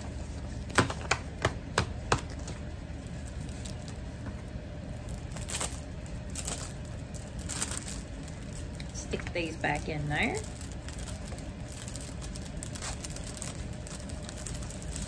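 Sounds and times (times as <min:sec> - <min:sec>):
plastic sleeve crinkling: 0:02.2 - 0:15.0.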